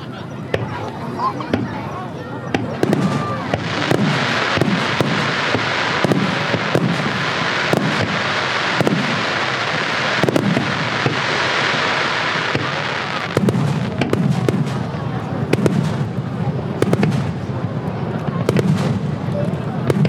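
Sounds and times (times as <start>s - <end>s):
fireworks sharp bangs: 0.0s - 20.0s
fireworks crackle and hiss: 0.2s - 20.0s.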